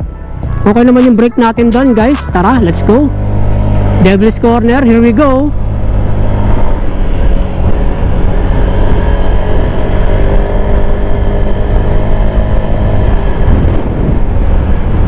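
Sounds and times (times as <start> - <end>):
scooter engine droning: 0.0 - 15.0
wind buffeting microphone: 2.6 - 15.0.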